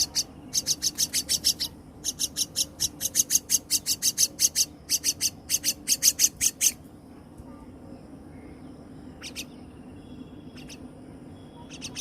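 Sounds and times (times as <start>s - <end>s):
nestlings calling: 0.0s - 6.9s, 8.0s - 12.0s.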